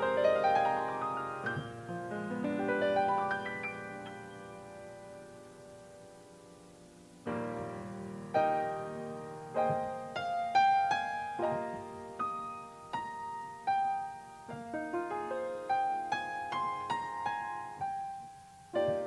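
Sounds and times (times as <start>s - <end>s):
slow solo piano: 0.0s - 19.0s.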